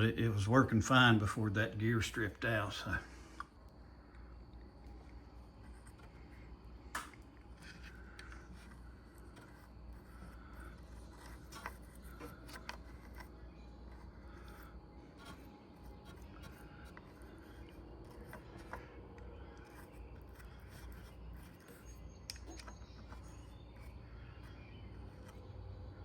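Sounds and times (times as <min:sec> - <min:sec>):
low steady hum: 0:00.0 - 0:26.0
small clicks and rubbing: 0:03.4 - 0:26.0.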